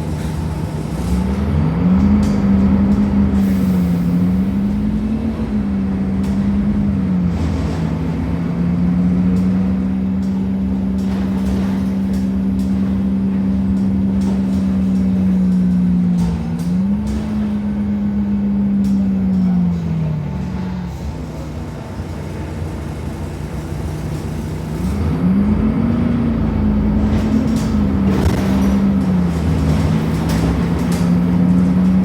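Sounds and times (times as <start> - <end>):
bus engine low hum: 0.0 - 32.0.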